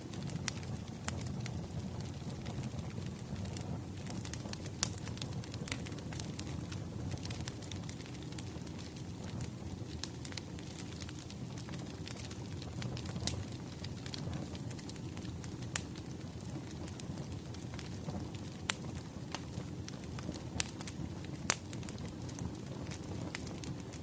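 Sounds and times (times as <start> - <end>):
wood fire crackling: 0.0 - 24.0
sharp pops from fire: 0.1 - 24.0.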